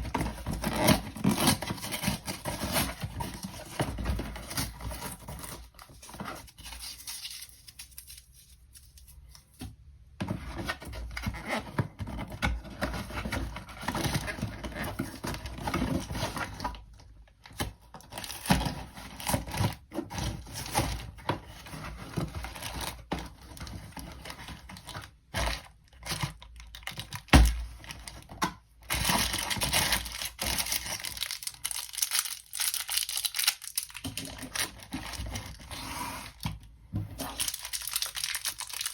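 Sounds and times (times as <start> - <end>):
packaging crinkling and tearing: 0.0 - 9.6, 11.1 - 36.5, 37.2 - 38.9.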